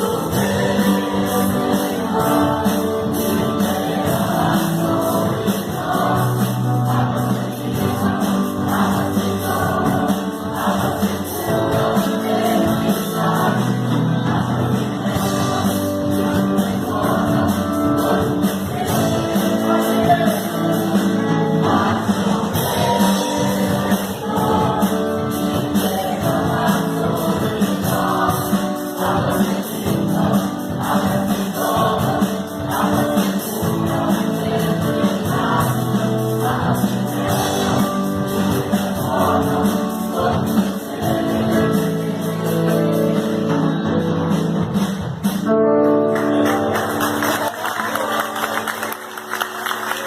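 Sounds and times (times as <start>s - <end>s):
choir singing worship song: 0.0s - 43.9s
instrumental accompaniment with beat: 0.0s - 50.0s.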